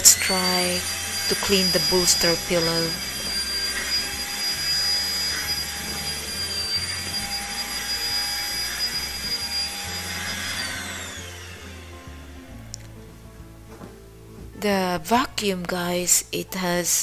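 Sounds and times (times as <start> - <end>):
vacuum cleaner motor whining: 0.0 - 14.6.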